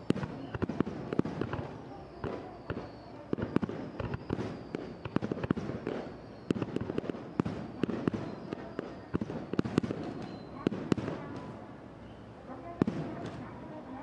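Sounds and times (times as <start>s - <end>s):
fireworks bursting: 0.0s - 13.9s.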